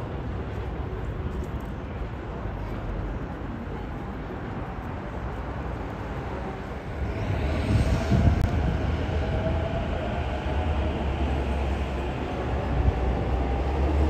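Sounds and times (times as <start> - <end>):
city background rumble: 0.0 - 14.0.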